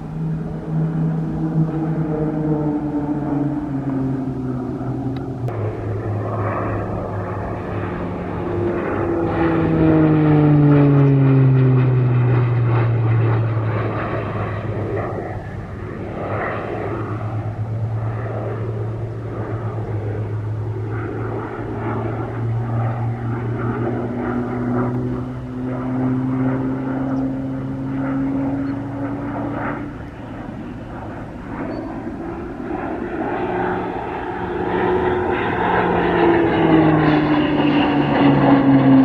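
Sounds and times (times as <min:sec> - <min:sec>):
propeller planes flying by: 0:00.0 - 0:39.0.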